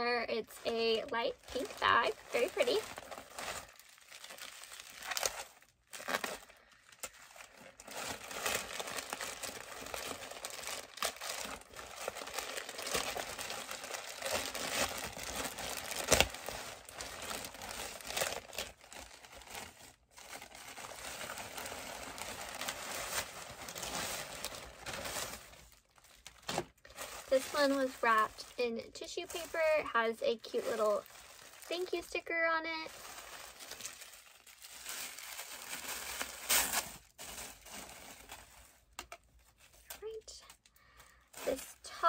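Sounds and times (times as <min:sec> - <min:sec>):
plastic and paper crinkling: 0:00.0 - 0:42.0.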